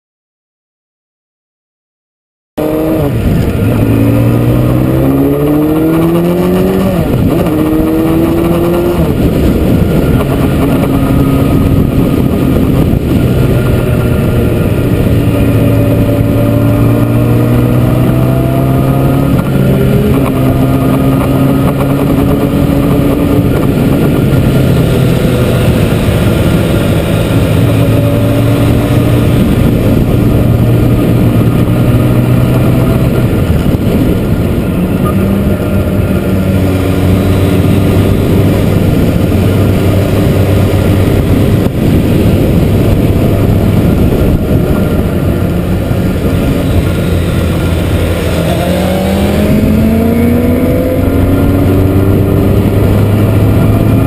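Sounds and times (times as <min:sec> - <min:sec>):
motorcycle engine: 0:02.6 - 0:54.0
wind and road noise: 0:02.6 - 0:54.0.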